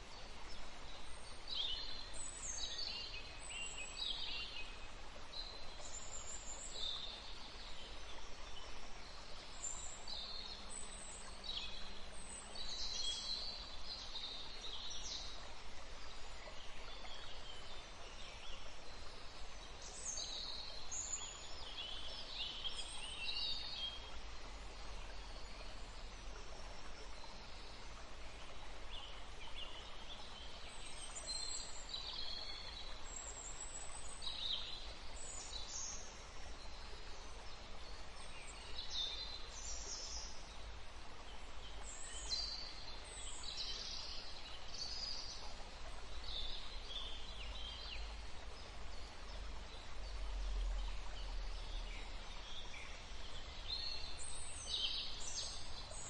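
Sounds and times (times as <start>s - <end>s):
steady low background noise: 0.0s - 56.0s.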